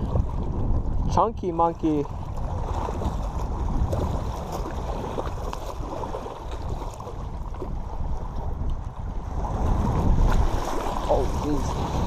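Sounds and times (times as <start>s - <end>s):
small waves lapping on rocks: 0.0s - 12.0s
wind buffeting microphone: 0.0s - 12.0s.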